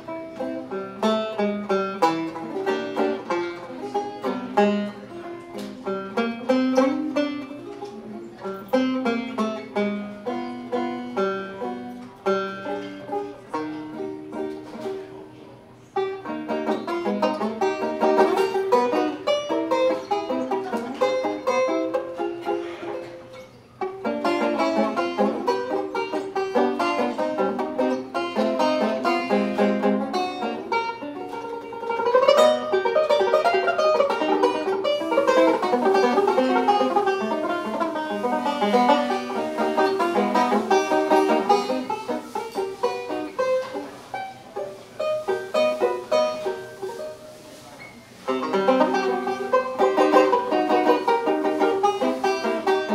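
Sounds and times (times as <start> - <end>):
banjo picking: 0.0 - 52.9.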